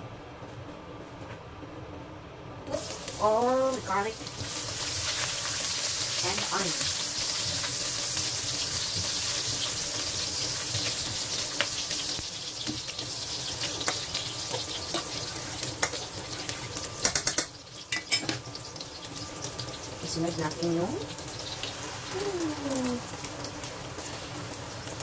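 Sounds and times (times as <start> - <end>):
garlic and onion sizzling in oil: 2.7 - 25.0.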